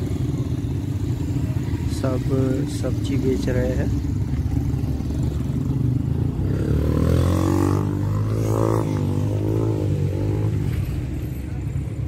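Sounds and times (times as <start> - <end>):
motorcycle engine revving: 0.0 - 11.6
car engines passing: 0.0 - 12.0
road traffic: 0.0 - 12.0.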